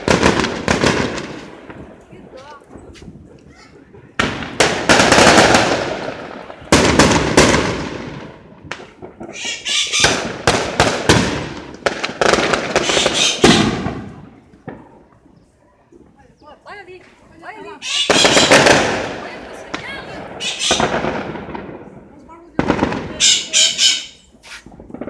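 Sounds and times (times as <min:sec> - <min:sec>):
firecracker bangs: 0:00.0 - 0:15.1, 0:17.9 - 0:25.0.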